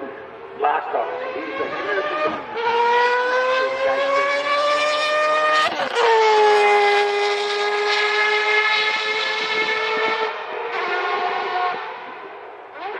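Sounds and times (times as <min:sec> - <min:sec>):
race car engine revving: 0:00.0 - 0:12.9.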